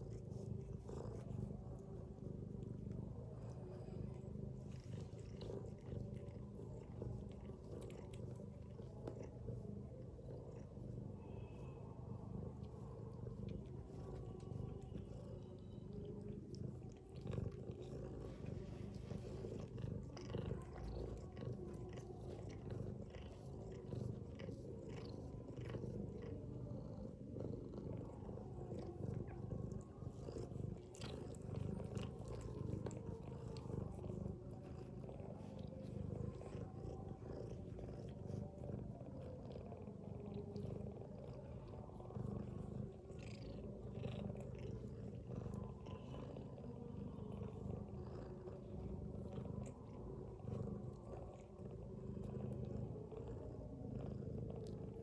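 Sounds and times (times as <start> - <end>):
cat purring rumble: 0.0 - 55.0.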